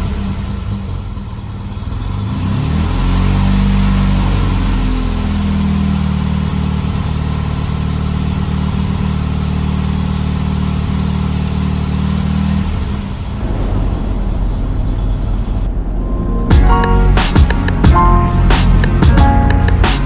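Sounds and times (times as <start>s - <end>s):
car engine running: 0.0s - 15.8s, 16.5s - 20.0s.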